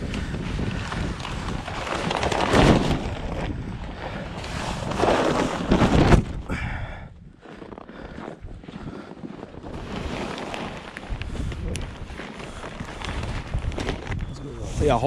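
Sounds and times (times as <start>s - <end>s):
wind buffeting microphone: 0.0s - 7.4s, 8.0s - 15.0s.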